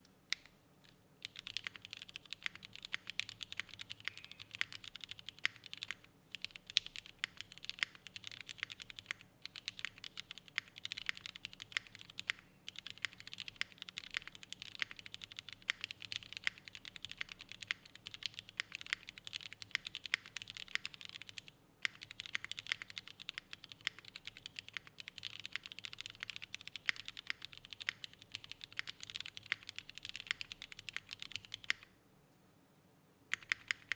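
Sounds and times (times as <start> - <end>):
fast mechanical keyboard typing: 1.2 - 31.9, 33.3 - 33.9.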